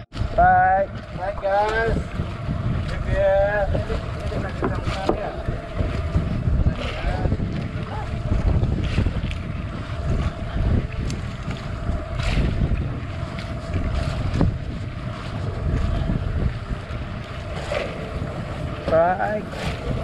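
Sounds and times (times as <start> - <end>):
water washing against boat: 0.0 - 20.0
wind buffeting microphone: 0.0 - 20.0.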